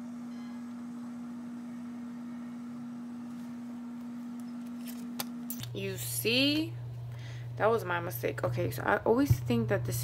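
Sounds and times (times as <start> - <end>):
laminator motor hum: 0.0 - 10.0.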